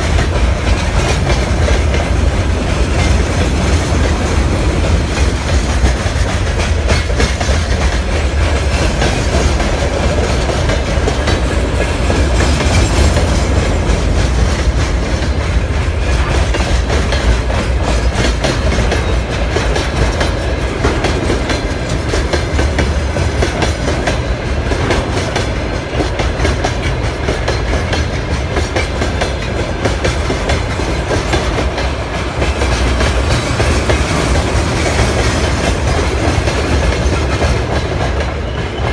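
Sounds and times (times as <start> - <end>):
freight train rumble: 0.0 - 38.9.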